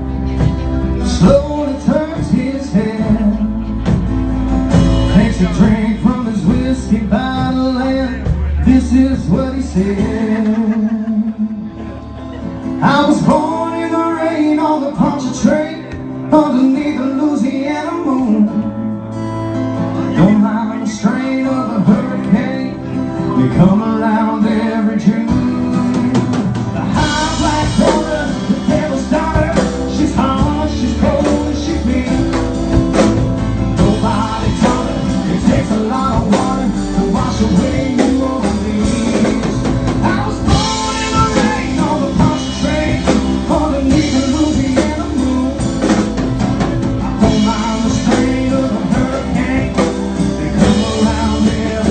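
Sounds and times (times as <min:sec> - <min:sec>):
country-rock band playing: 0:00.0 - 0:51.9
drums: 0:00.0 - 0:51.9
electric guitar: 0:00.0 - 0:51.9.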